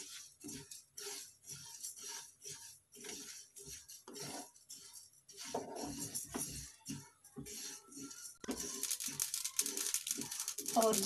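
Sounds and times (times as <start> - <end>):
spatula scraping seeds in pan: 0.0 - 11.0.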